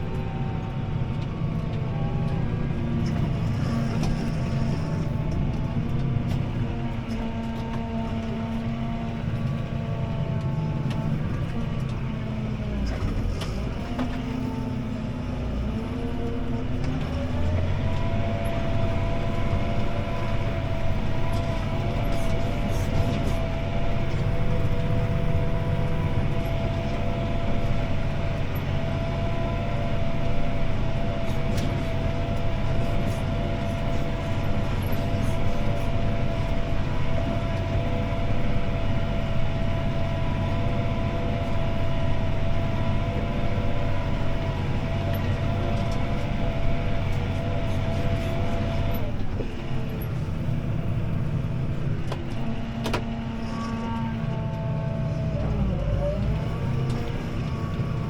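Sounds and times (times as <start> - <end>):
tractor diesel engine droning: 0.0 - 58.0.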